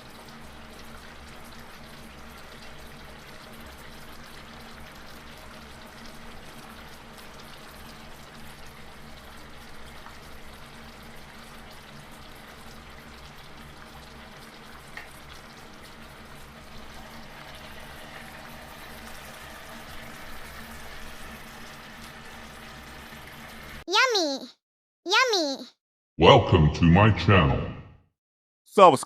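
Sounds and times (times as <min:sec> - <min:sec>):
food deep-frying in oil: 0:00.0 - 0:23.8.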